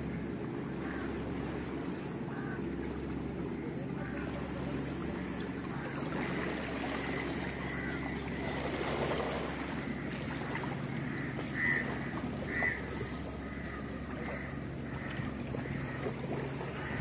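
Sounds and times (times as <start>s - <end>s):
boat engine humming: 0.0s - 17.0s
water lapping: 0.0s - 17.0s
wind: 0.0s - 17.0s.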